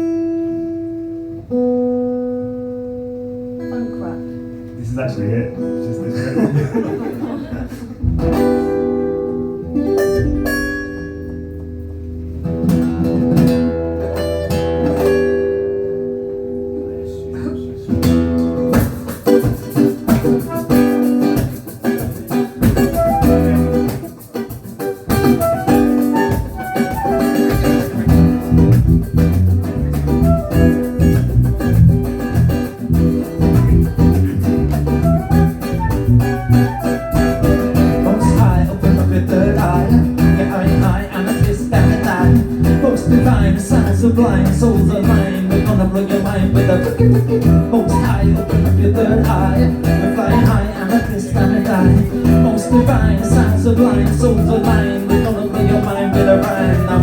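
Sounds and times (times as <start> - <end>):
plucked guitar notes: 0.0 - 6.3, 8.0 - 57.0
funk band playing: 5.5 - 57.0
held bass notes: 8.0 - 21.5, 22.6 - 24.2, 25.1 - 57.0.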